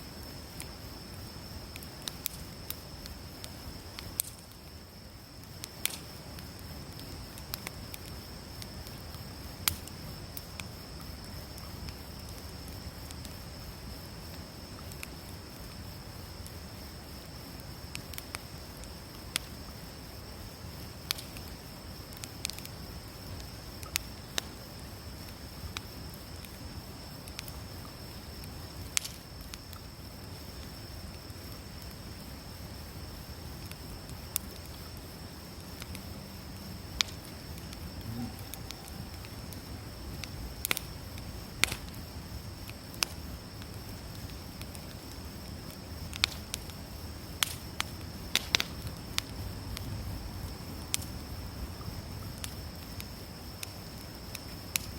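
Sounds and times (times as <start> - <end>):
campfire crackling and popping: 0.0 - 54.9
high insect drone: 0.0 - 54.9.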